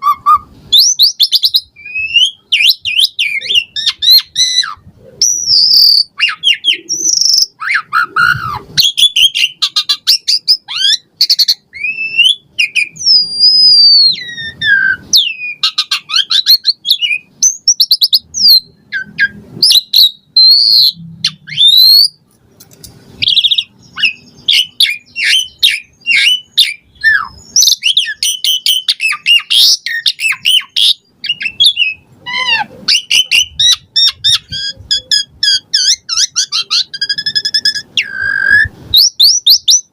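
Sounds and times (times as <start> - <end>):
bird singing varied song: 0.0 - 22.3, 23.1 - 39.9.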